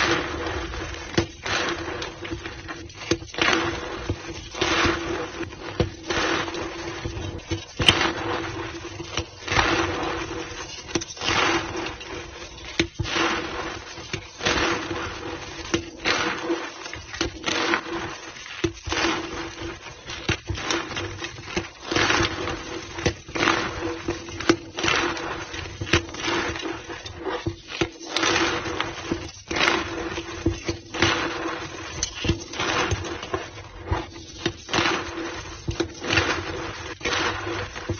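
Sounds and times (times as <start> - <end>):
chalk blocks being crushed: 0.0 - 37.9.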